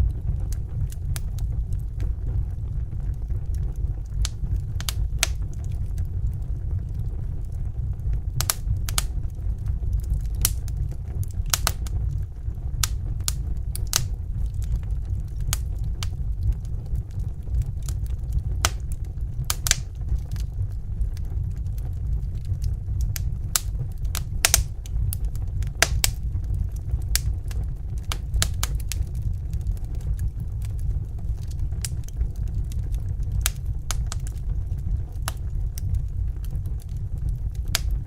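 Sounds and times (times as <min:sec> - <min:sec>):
low rumble of flames: 0:00.0 - 0:38.0
wood fire crackling: 0:00.0 - 0:38.0.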